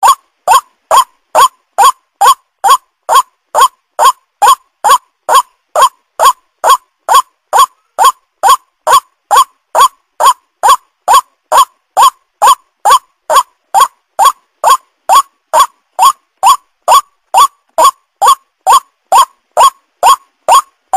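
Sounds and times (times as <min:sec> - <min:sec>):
waterhen calling: 0:00.0 - 0:20.7.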